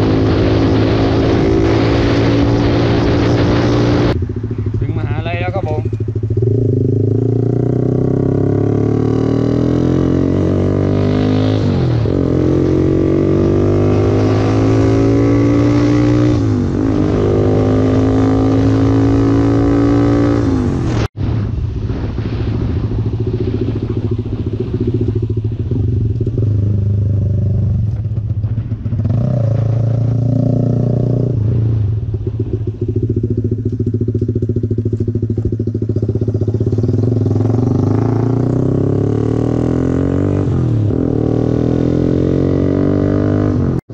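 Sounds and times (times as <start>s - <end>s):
motorcycle engine accelerating: 0.0s - 21.2s, 22.8s - 43.9s
wind rushing over microphone: 0.0s - 43.8s.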